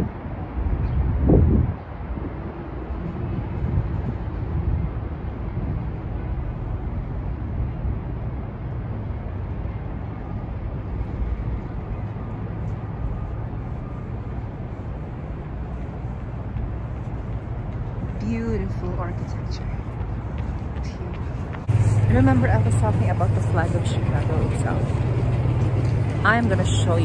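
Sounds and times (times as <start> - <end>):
city background rumble: 0.0 - 27.0.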